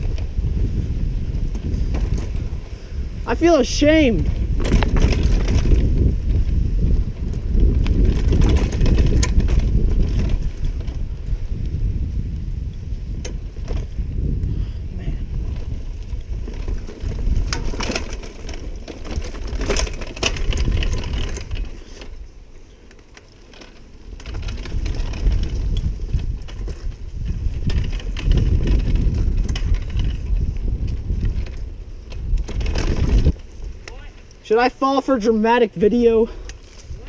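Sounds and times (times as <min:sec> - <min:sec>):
wind on microphone: 0:00.0 - 0:22.4, 0:24.0 - 0:34.7, 0:35.4 - 0:37.0
bike knocking and rattling: 0:00.0 - 0:37.0
bike tyres rumbling on dirt: 0:00.0 - 0:37.0.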